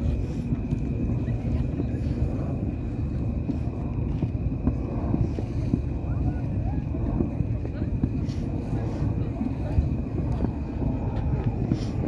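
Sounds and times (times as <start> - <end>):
distant fireworks popping: 0.0 - 12.0
wind rumbling on microphone: 0.0 - 12.0.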